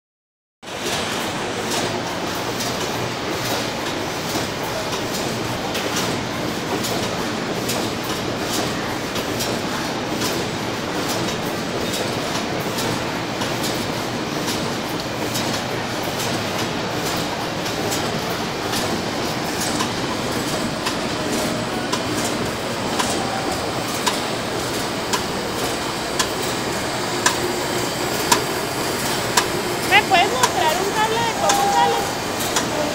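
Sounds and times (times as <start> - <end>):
wire cutting machine clatter: 0.7 - 32.9
rapid mechanical clicking: 0.8 - 32.9.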